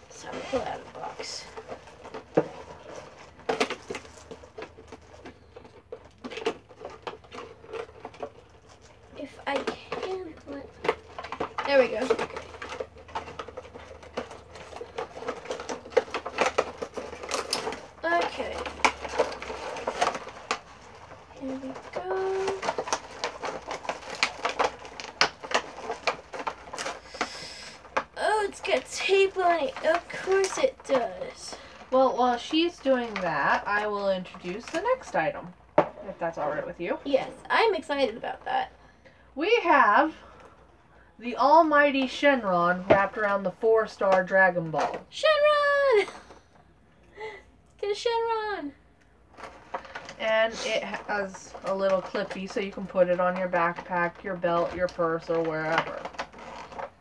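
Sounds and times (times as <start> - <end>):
cardboard and plastic packaging crackling: 0.0 - 46.5, 47.2 - 57.0.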